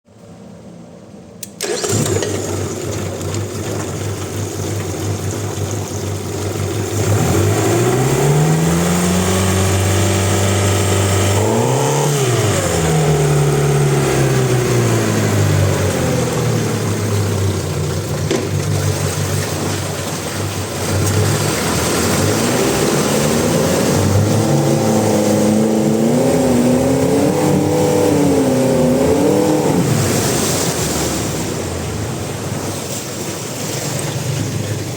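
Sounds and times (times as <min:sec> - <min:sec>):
outboard motor revving: 0:01.4 - 0:34.9.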